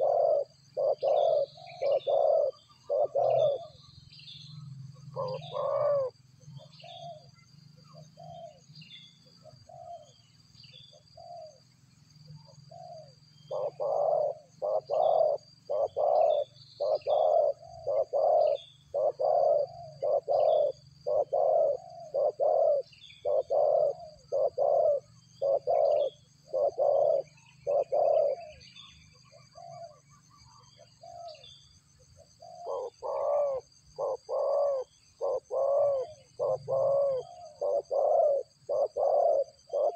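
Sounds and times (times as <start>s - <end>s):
hollow dove-like cooing: 0.0s - 11.6s, 12.2s - 39.9s.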